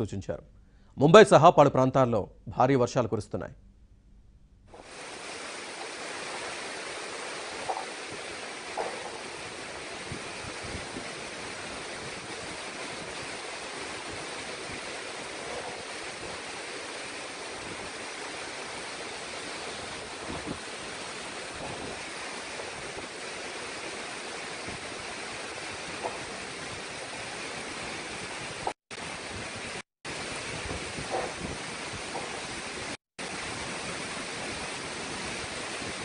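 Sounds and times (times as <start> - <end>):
heavy rain: 4.8 - 36.0
surf breaking on shore: 4.8 - 36.0.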